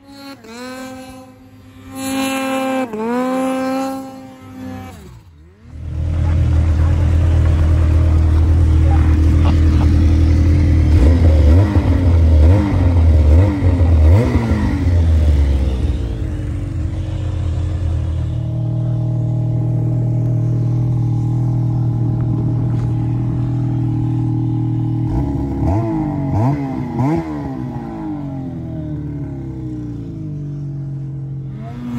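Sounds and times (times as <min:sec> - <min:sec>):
snowmobile engine idling: 0:00.0 - 0:31.9
snowmobile engine revving: 0:00.0 - 0:31.9.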